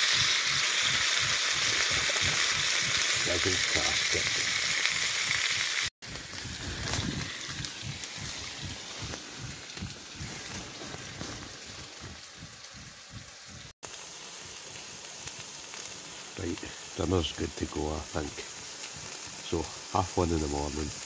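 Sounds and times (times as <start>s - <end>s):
frying pan sizzle: 0.0s - 21.0s.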